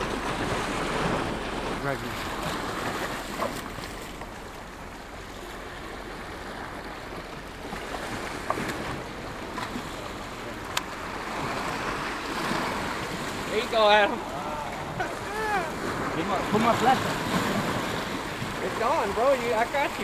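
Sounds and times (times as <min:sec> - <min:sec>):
surf washing against rocks: 0:00.0 - 0:20.0.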